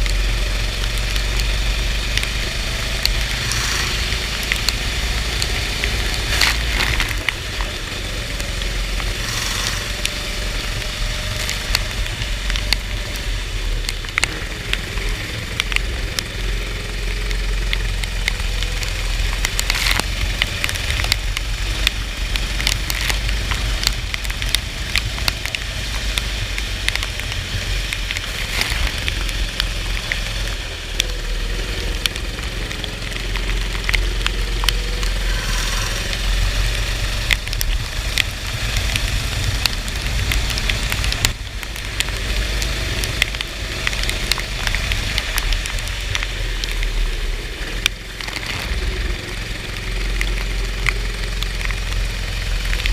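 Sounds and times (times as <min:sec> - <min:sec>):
crackling noise: 0:00.0 - 0:52.9
go-kart engine running: 0:00.0 - 0:52.9
small clicks: 0:00.0 - 0:52.9.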